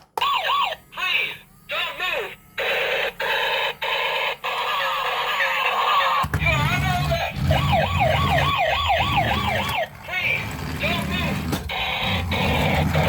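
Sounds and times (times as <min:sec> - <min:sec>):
toy police siren wailing: 0:00.2 - 0:13.0.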